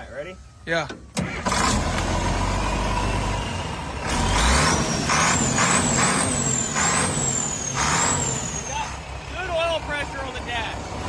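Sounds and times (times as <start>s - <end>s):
bulldozer diesel engine running: 0.4s - 11.0s.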